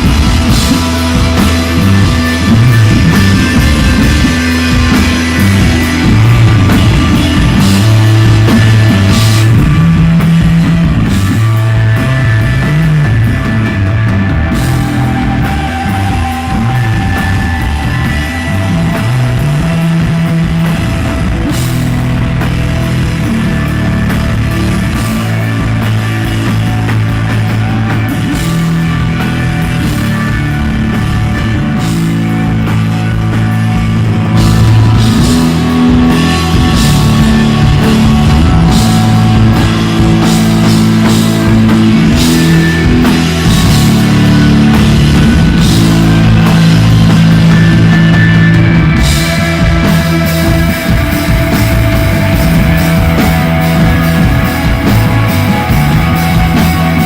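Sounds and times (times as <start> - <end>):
bass guitar: 0.0 - 57.0
electric guitar: 0.0 - 57.0.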